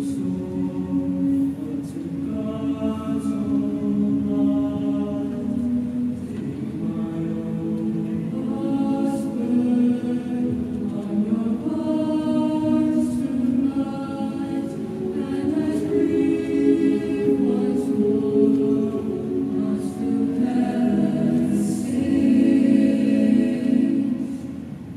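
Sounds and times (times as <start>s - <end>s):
choir singing a cappella: 0.0s - 24.9s.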